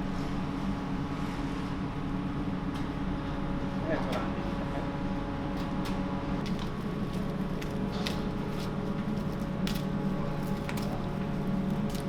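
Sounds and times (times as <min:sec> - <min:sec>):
electrical hum of kitchen equipment: 0:00.0 - 0:12.0.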